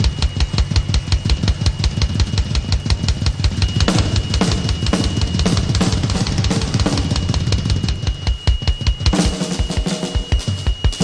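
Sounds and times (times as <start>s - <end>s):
drum kit beat: 0.0s - 11.0s
thin high whine: 0.0s - 11.0s.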